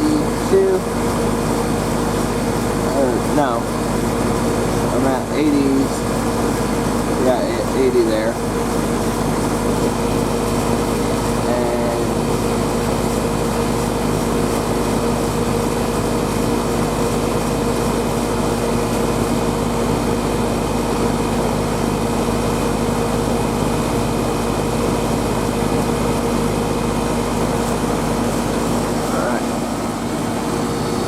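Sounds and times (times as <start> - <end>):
air conditioning unit humming: 0.0 - 31.0.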